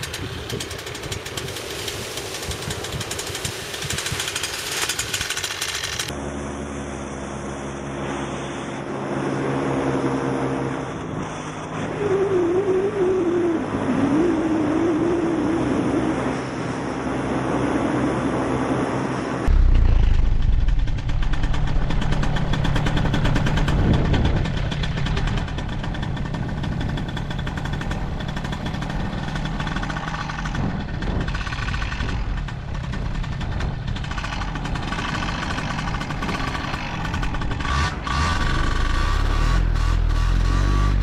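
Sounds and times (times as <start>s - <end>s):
paramotor engine running: 0.0s - 12.3s, 14.5s - 41.0s.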